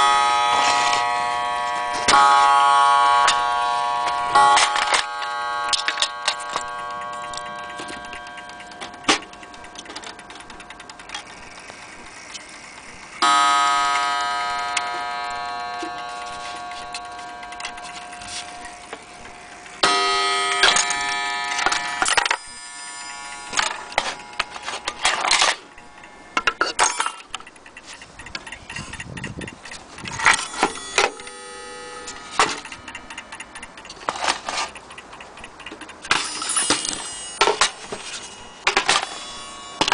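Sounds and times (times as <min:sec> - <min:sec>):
clock gong ringing: 0:00.0 - 0:39.9
clock parts clicking and rattling: 0:00.0 - 0:39.9.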